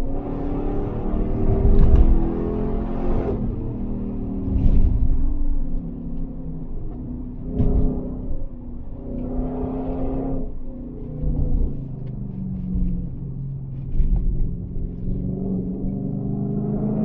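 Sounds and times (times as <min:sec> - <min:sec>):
car engine revving: 0:00.0 - 0:17.0
low road rumble: 0:00.0 - 0:17.0.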